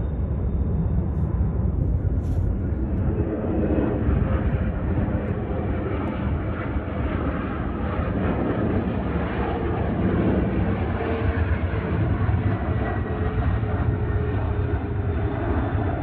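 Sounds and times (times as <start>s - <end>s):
jet engines rumbling with whine: 0.0s - 16.0s.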